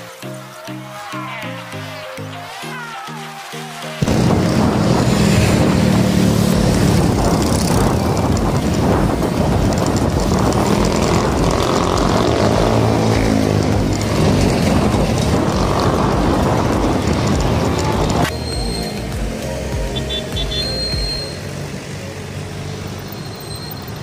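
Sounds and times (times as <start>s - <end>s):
bike in motion rushing: 1.8s - 24.0s.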